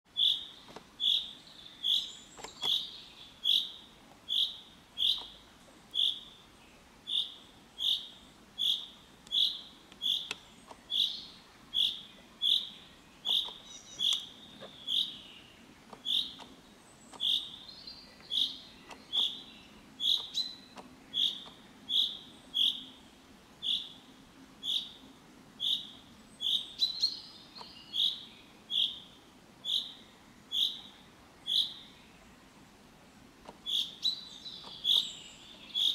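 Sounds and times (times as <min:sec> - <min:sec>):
chaffinch calling: 0:00.1 - 0:23.0, 0:23.6 - 0:32.2, 0:33.6 - 0:35.9.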